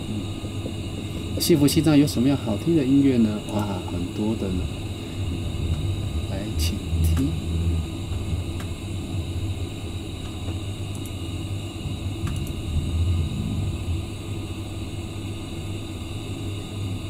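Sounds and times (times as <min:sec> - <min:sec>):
train interior rumble: 0:00.0 - 0:16.2.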